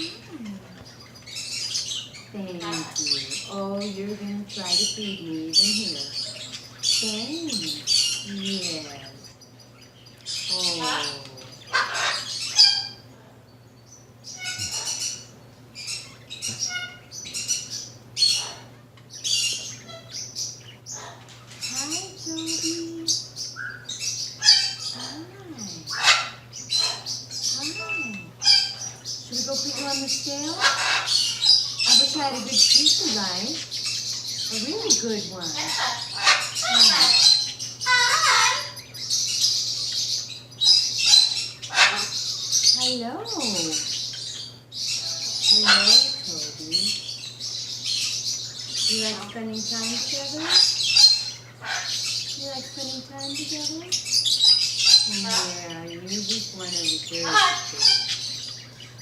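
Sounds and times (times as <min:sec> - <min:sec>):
macaw squawking: 0:00.0 - 0:09.2, 0:10.3 - 0:13.1, 0:14.3 - 0:59.0.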